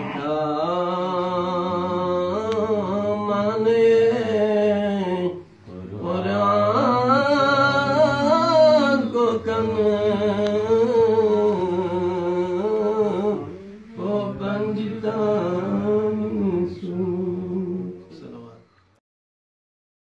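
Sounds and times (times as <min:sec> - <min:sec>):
man chanting: 0:00.0 - 0:18.7.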